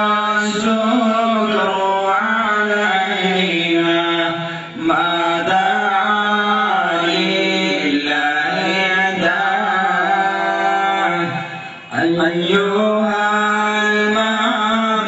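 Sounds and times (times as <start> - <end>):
person chanting melodically: 0.0 - 15.0.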